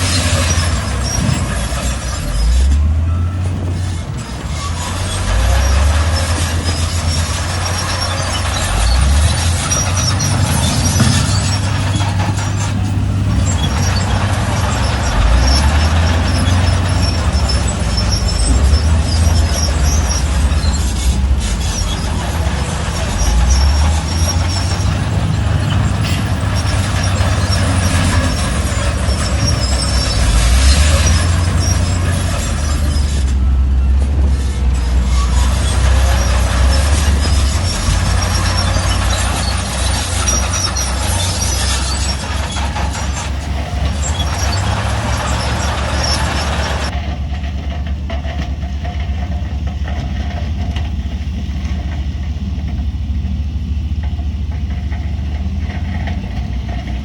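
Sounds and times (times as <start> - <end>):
high-pitched squeaking: 0.0 - 46.9
heavy machinery diesel engine: 0.0 - 57.0.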